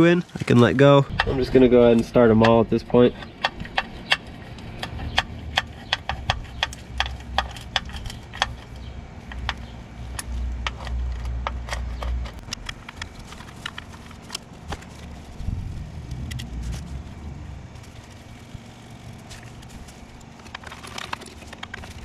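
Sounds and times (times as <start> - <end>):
low rumble of handling: 0.0 - 22.0.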